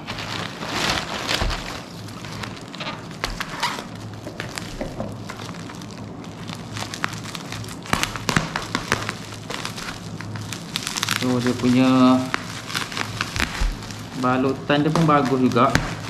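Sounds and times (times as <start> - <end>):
bubble wrap crinkling and crackling: 0.0 - 16.0.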